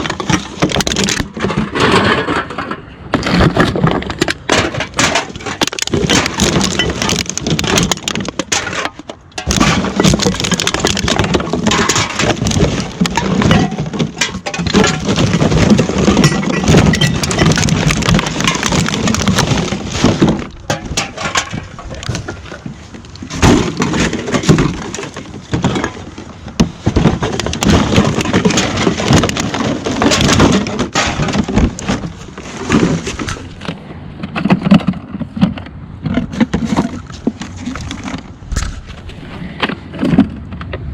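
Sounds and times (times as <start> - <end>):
items clattering while rummaged: 0.0 - 40.7.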